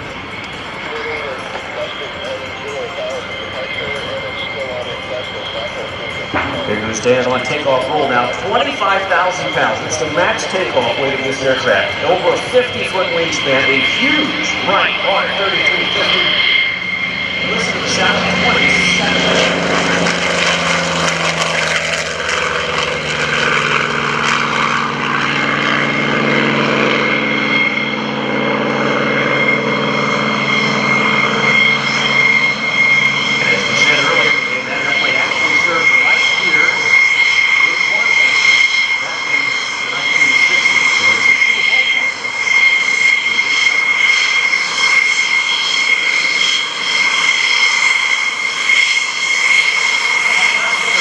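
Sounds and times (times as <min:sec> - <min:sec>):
propeller plane engine drone: 0:00.0 - 0:51.0.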